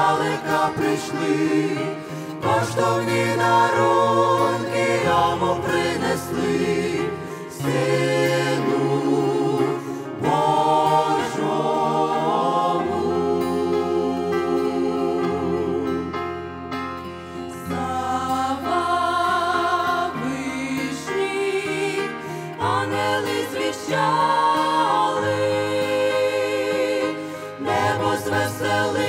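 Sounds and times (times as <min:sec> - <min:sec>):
mixed choir singing carol: 0:00.0 - 0:16.6, 0:17.5 - 0:29.0.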